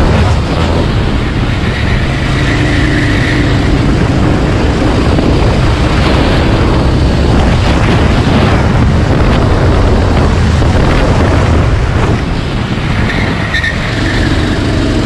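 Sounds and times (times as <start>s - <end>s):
go-kart engine at full throttle: 0.0s - 15.0s
wind buffeting microphone: 0.0s - 15.0s.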